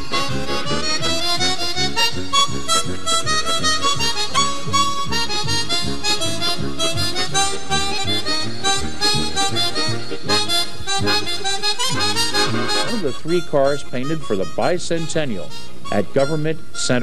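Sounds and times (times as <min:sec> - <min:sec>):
harmonica melody: 0:00.0 - 0:17.0
rhythmic musical accompaniment: 0:00.0 - 0:17.0.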